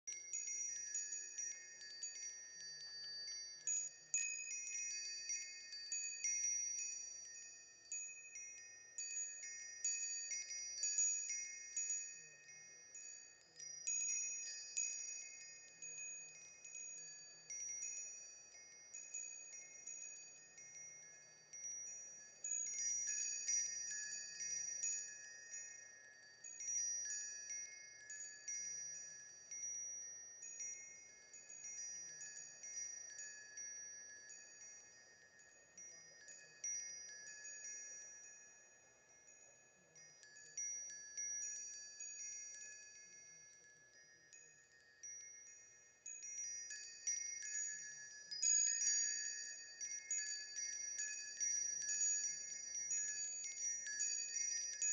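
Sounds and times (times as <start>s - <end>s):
wind chimes ringing: 0.1s - 54.9s.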